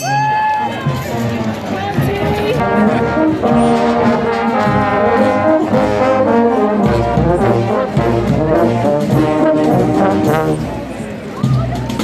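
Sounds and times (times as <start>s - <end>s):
brass band playing: 0.8s - 12.0s
low bass brass notes: 1.1s - 11.1s.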